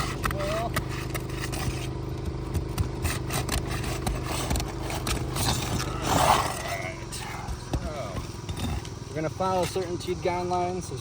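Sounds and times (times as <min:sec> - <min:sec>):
pry tool scraping shingles: 0:00.0 - 0:10.0
engine-like hum: 0:00.0 - 0:11.0.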